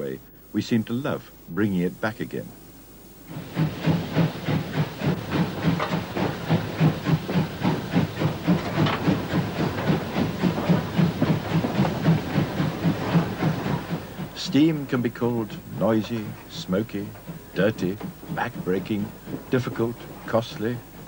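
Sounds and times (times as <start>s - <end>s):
steam hissing: 3.2s - 21.0s
steam locomotive exhaust chuffing: 3.2s - 21.0s.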